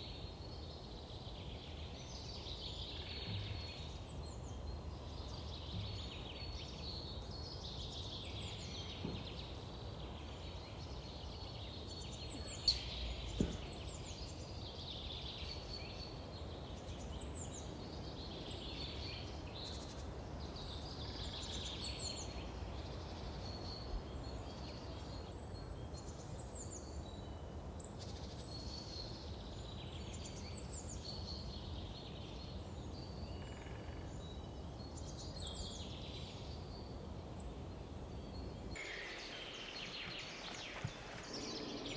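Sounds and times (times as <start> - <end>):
birds singing and calling: 1.0 - 41.9.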